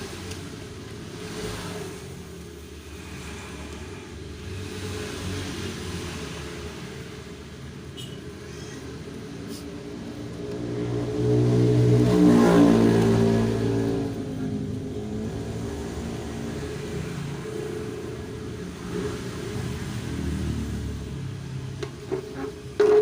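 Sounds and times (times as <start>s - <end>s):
car engine revving: 1.0s - 6.9s, 10.0s - 23.0s.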